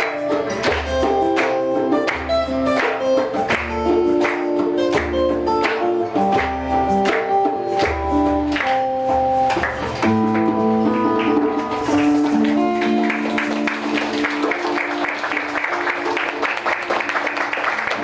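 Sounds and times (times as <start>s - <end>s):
audience applause: 0.0s - 8.8s, 9.5s - 18.0s
held instrumental chords: 0.0s - 17.0s.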